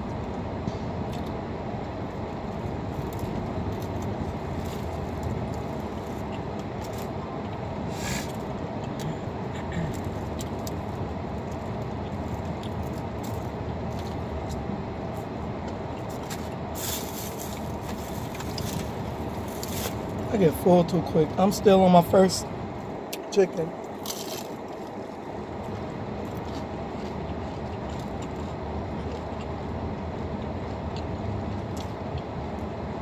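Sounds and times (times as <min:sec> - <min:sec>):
car cabin rumble: 0:00.0 - 0:33.0.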